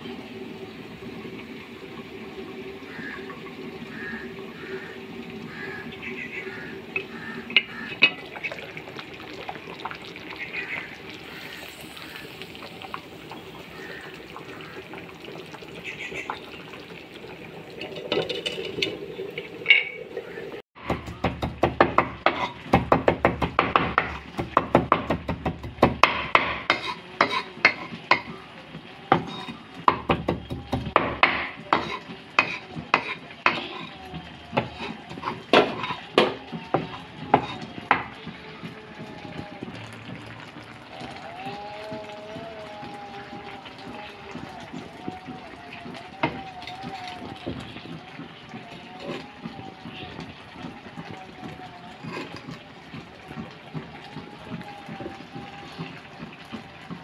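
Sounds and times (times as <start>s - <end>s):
pot bubbling: 0.0s - 57.0s.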